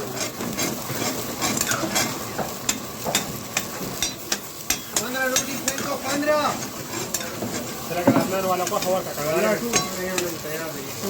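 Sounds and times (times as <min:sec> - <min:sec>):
utensil clicking against pan: 0:00.0 - 0:09.0, 0:09.6 - 0:10.4
chicken sizzling in a pan: 0:00.0 - 0:11.0.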